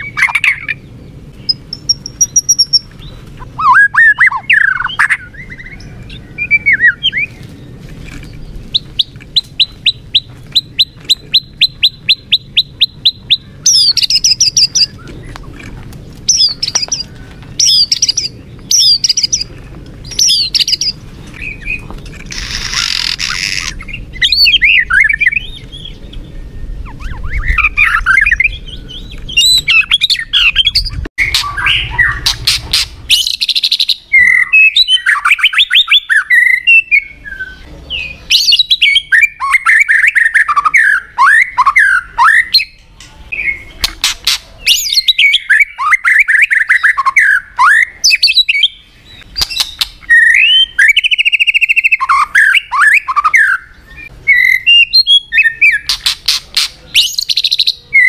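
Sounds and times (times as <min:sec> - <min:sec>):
songbird singing whistled phrases: 0:00.0 - 0:07.5, 0:08.2 - 0:15.4, 0:16.3 - 0:58.0.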